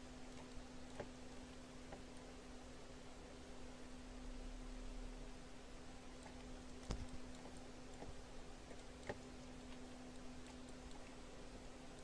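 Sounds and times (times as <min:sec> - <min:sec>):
low electrical hum and hiss: 0:00.0 - 0:12.0.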